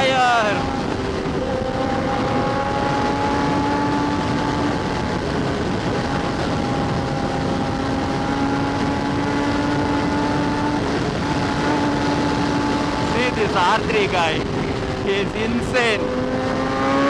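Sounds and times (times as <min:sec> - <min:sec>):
motorcycle engine running: 0:00.0 - 0:17.0
wind rush on microphone: 0:00.0 - 0:17.0.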